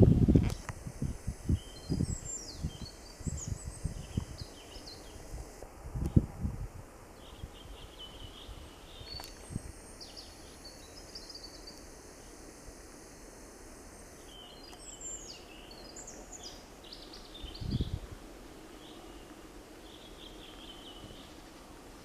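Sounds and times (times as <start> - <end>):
soft outdoor hiss: 0.0 - 22.0
songbirds singing: 0.9 - 6.2, 7.1 - 12.6, 14.0 - 21.7.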